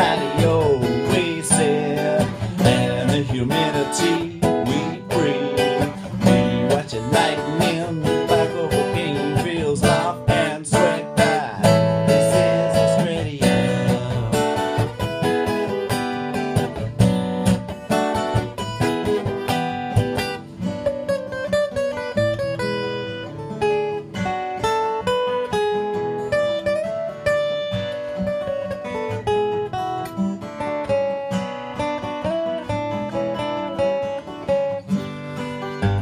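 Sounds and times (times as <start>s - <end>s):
acoustic guitar strummed chords: 0.0s - 36.0s
guitar single-note melody: 0.0s - 36.0s.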